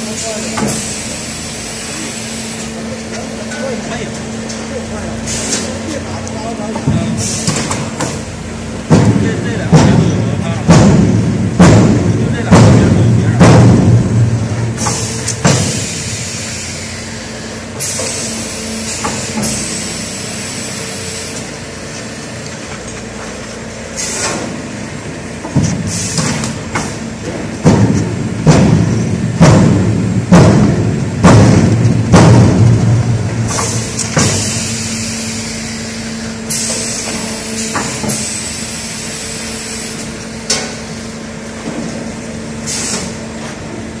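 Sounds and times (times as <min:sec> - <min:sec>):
machine hum: 0:00.0 - 0:44.0.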